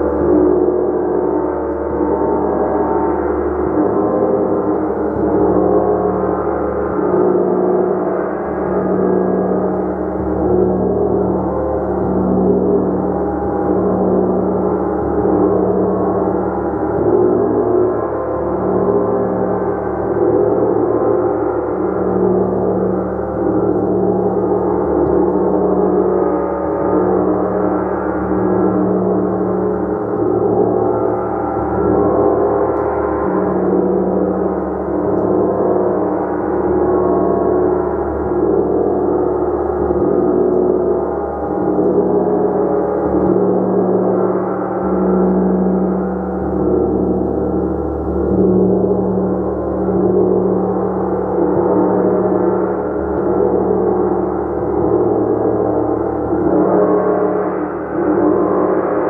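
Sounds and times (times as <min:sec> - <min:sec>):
gong shimmering: 0:08.2 - 0:59.0.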